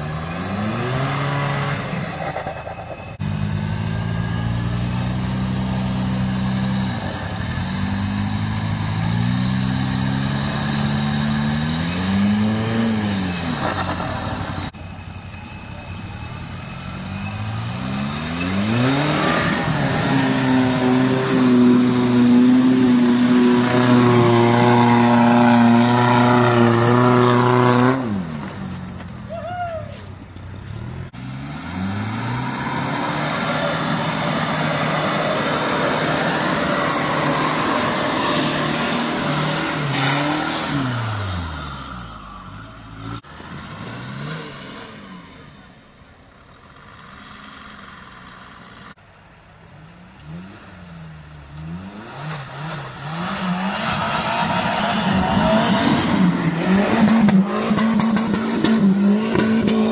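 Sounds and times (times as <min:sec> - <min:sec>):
off-road engines revving: 0:00.0 - 0:49.0, 0:50.2 - 0:59.9.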